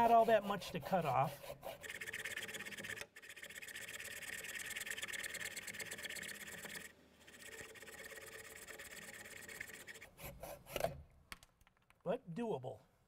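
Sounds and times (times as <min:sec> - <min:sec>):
hacksaw cutting metal: 0:00.0 - 0:11.0.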